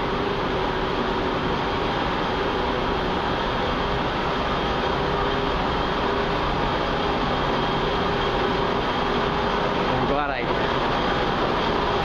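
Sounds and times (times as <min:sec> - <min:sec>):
escalator mechanical drone: 0:00.0 - 0:12.0
faint constant hum: 0:00.0 - 0:12.0.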